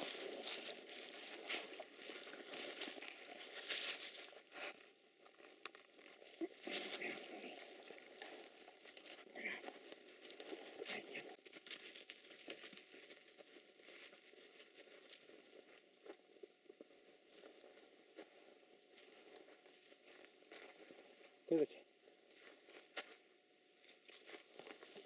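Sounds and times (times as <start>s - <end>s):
dry leaves crackling underfoot: 0.0s - 16.2s, 18.1s - 21.3s, 22.3s - 23.2s, 23.8s - 25.0s.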